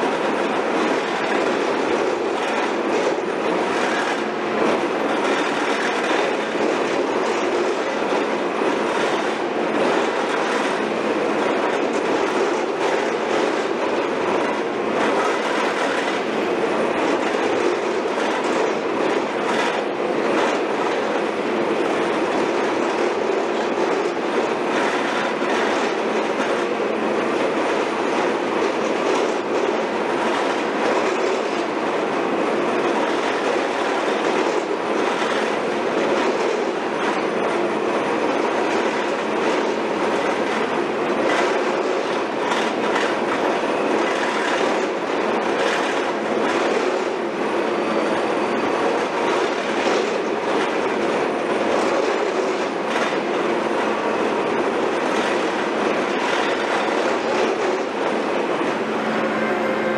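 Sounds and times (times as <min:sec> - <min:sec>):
heavy construction machinery running: 0:00.0 - 0:59.9.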